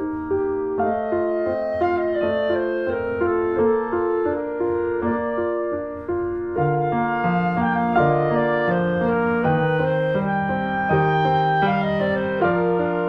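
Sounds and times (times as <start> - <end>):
gentle piano and woodwind music: 0.0 - 13.0.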